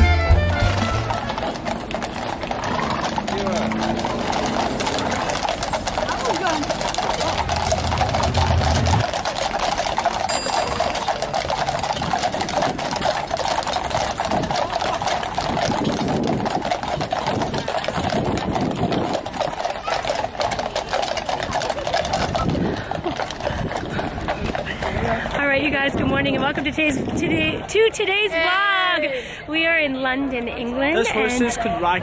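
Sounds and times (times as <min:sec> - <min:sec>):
horse hooves clattering on tarmac: 0:00.0 - 0:28.1.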